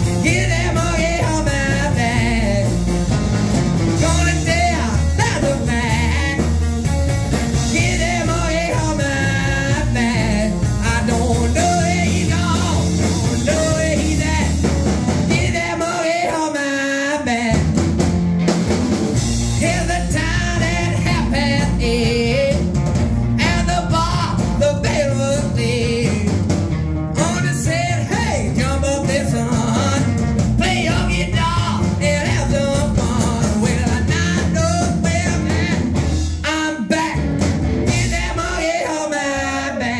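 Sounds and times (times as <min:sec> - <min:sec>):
man singing: 0:00.0 - 0:02.9, 0:04.0 - 0:06.7, 0:07.5 - 0:17.8, 0:19.5 - 0:26.5, 0:27.1 - 0:39.9
rock and roll band playing: 0:00.0 - 0:39.9.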